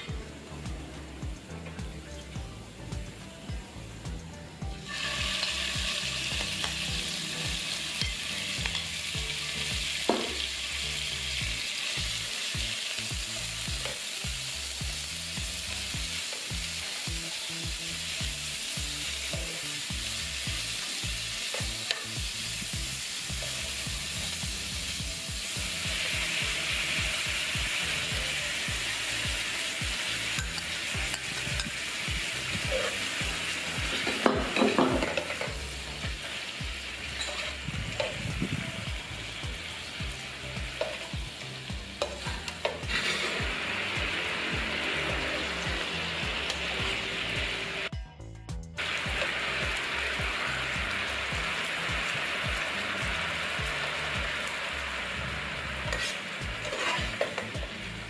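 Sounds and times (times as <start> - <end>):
beef sizzling in hot oil: 0.0 - 48.0, 48.8 - 58.0.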